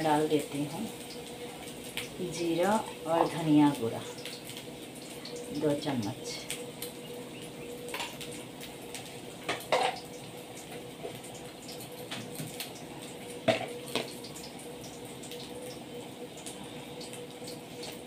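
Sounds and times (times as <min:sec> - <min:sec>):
spices sizzling in oil: 0:00.0 - 0:18.0.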